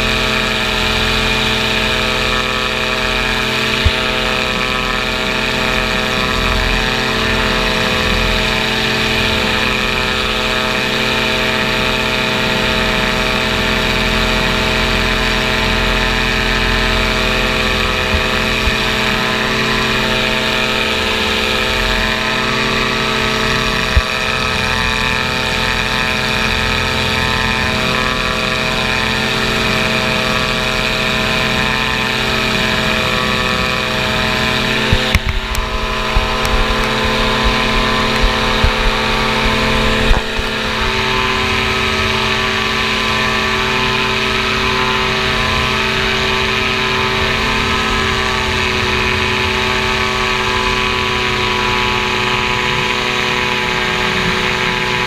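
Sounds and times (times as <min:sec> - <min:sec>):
engine and propeller droning: 0:00.0 - 0:55.0
wind rumbling on microphone: 0:00.0 - 0:55.0.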